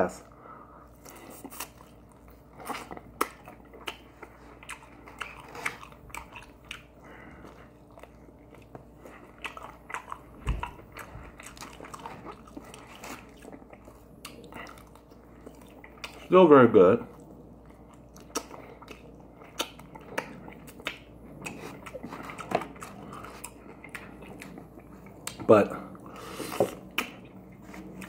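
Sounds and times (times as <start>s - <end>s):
mouth chewing sounds: 0.9s - 16.4s, 17.0s - 28.0s.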